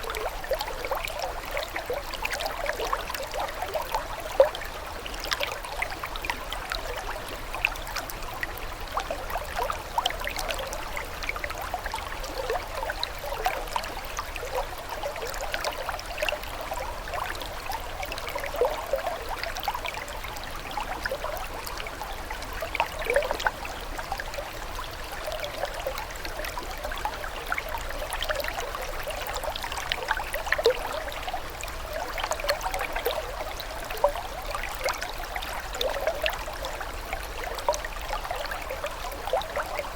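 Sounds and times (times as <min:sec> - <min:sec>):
stream trickling and bubbling: 0:00.0 - 0:39.9.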